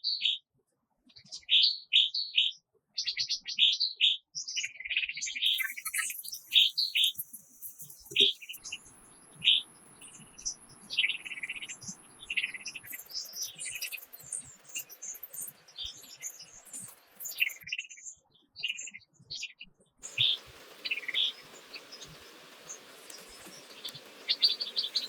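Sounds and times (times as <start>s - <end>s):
small birds chirping: 1.2s - 25.0s.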